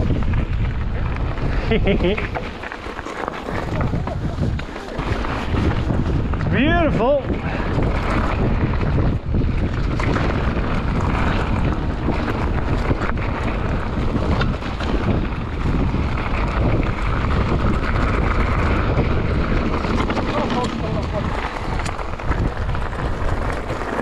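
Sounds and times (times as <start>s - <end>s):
tyres rumbling on dirt trail: 0.0s - 24.0s
wind buffeting microphone: 0.0s - 24.0s
bike knocking over bumps: 1.8s - 6.7s, 7.4s - 24.0s.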